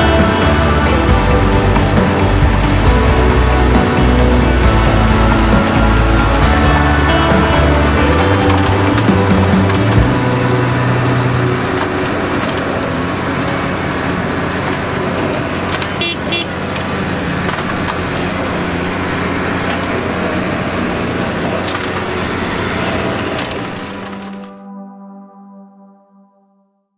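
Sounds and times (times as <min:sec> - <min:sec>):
tractor diesel engine running: 0:00.0 - 0:24.3.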